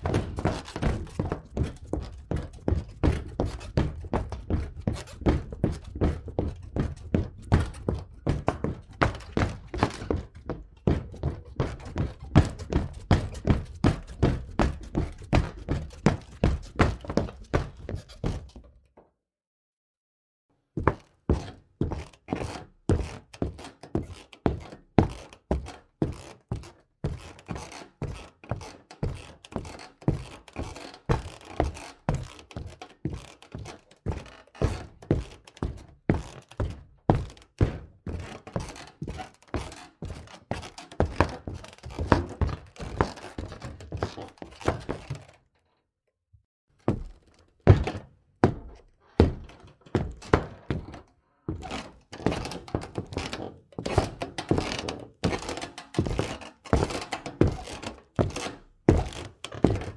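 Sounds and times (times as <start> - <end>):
footsteps on wood: 0.0 - 18.8, 20.8 - 45.4, 46.8 - 59.9.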